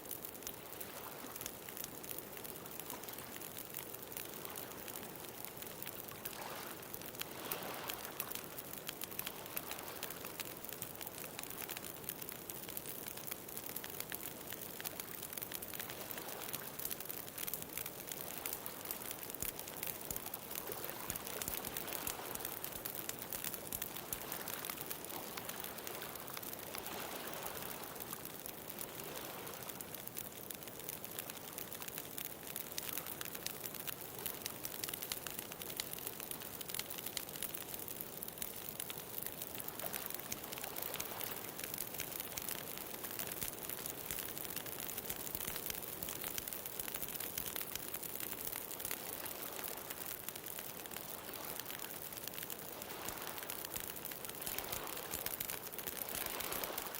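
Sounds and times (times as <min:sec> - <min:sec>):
bonfire crackling: 0:00.0 - 0:56.9.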